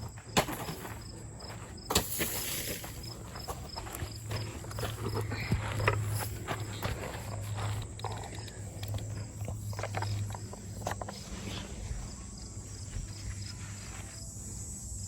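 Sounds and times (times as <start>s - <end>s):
footsteps: 0.0s - 14.5s
insects chirping: 0.0s - 15.0s.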